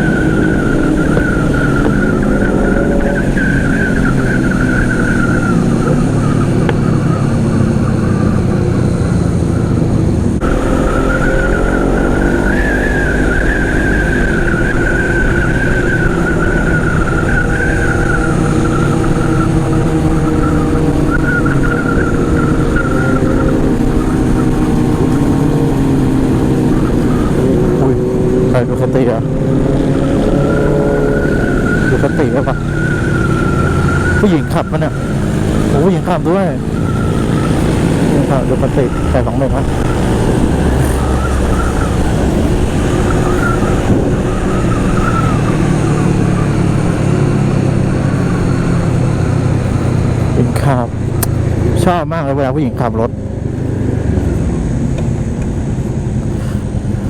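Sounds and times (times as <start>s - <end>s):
motorcycle engine cruising: 0.0s - 57.0s
wind rushing over microphone: 0.0s - 57.0s.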